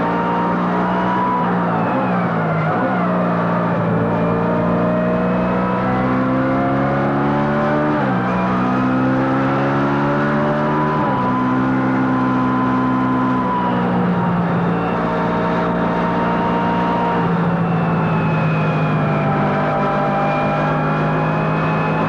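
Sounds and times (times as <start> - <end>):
racing engine accelerating: 0.0 - 22.0.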